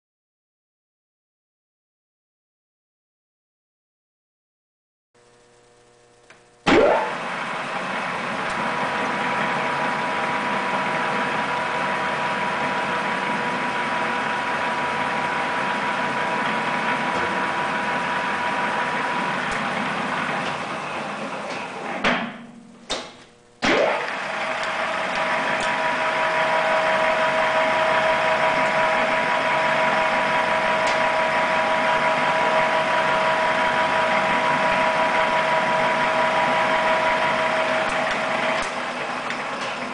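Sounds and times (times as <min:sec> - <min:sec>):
lathe motor spinning with whine: 0:05.2 - 0:22.2, 0:23.4 - 0:39.9.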